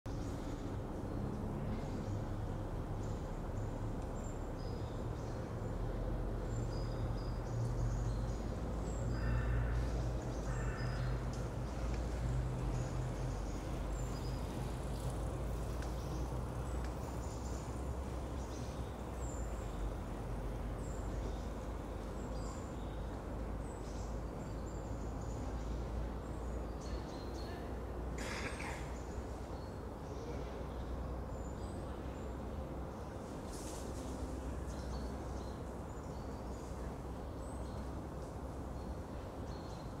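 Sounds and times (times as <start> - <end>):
distant city traffic rumble: 0.1 - 40.0
songbirds chirping: 0.1 - 40.0.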